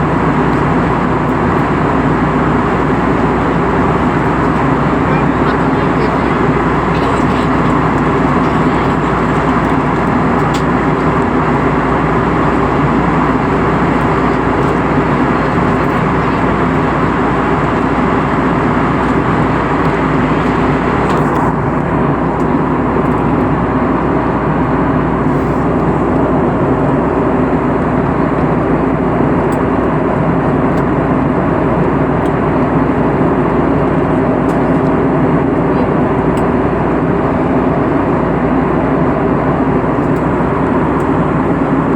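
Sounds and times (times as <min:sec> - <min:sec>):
airliner engine hum: 0:00.0 - 0:41.9.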